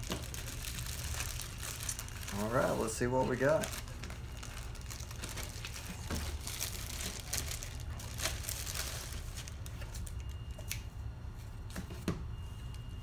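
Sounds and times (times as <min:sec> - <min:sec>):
plastic mailer bag crinkling: 0:00.0 - 0:10.6.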